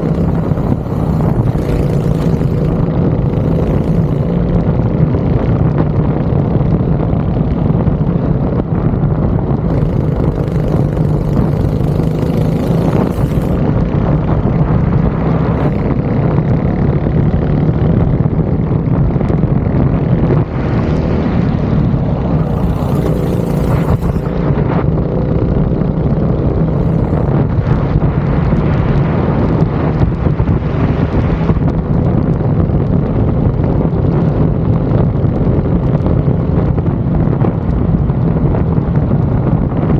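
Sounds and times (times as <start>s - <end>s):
steady rush of noise: 0.0s - 36.5s
go-kart engine running hard: 0.0s - 39.9s.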